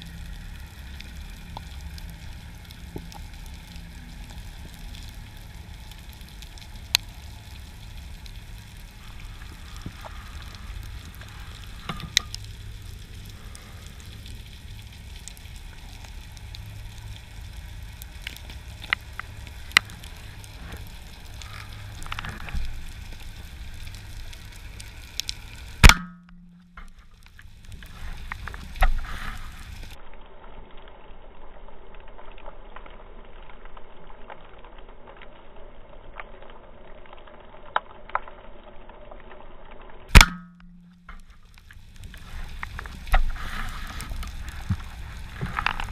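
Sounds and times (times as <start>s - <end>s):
crackling and sharp clicks: 0.0s - 45.9s
underwater rumble of moving water: 0.0s - 45.9s.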